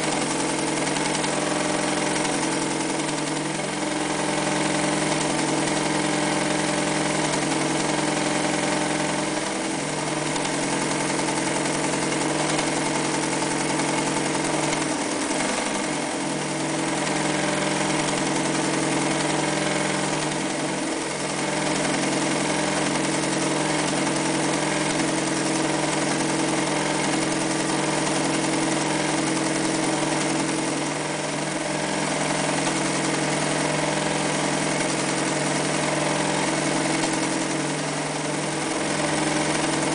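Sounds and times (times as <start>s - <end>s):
sewing machine stitching: 0.0s - 39.9s.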